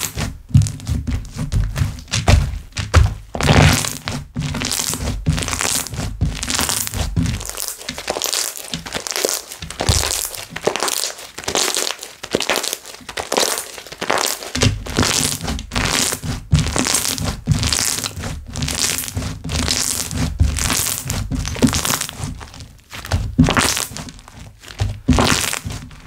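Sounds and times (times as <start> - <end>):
slime crackling and popping: 1.8 - 26.0.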